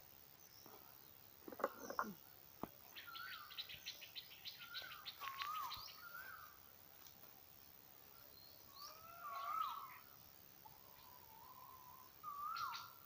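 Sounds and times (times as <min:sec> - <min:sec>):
birds singing: 0:00.2 - 0:06.7, 0:08.0 - 0:13.0.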